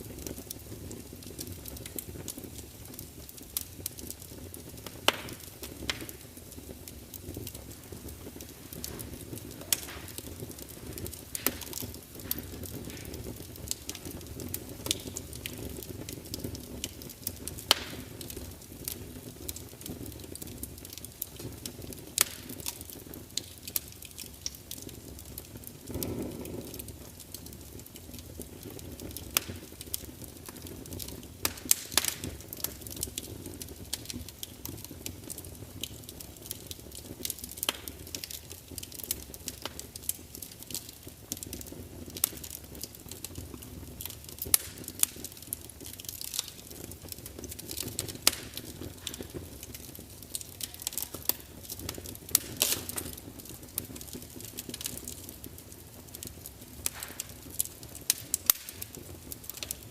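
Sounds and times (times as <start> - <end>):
whoosh of flame: 0.0 - 55.4
wood fire crackling and popping: 0.0 - 59.9.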